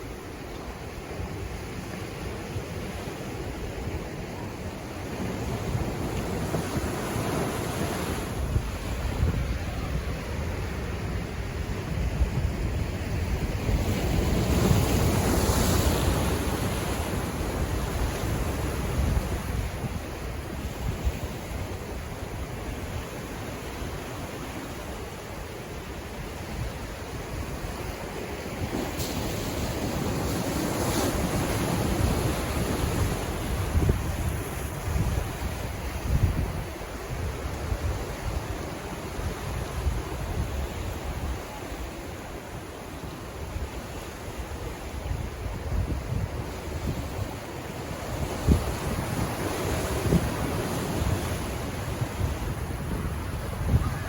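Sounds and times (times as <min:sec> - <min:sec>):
ocean waves washing in: 0:00.0 - 0:54.0
wind rumble on microphone: 0:00.0 - 0:54.0.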